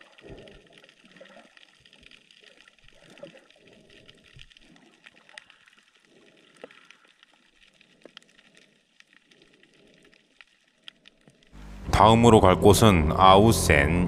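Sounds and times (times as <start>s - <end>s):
underwater clicks and crackles: 0.0s - 11.6s
faint underwater water noise: 0.0s - 12.5s.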